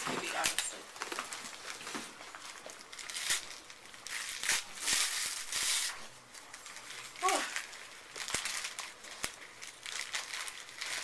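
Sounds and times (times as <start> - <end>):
gift wrapping rustling and ripping: 0.0 - 11.0.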